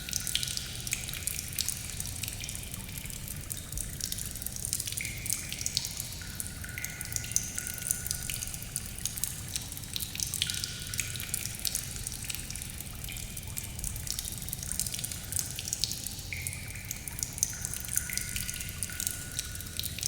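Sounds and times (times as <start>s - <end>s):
water dripping into pools: 0.0s - 20.0s.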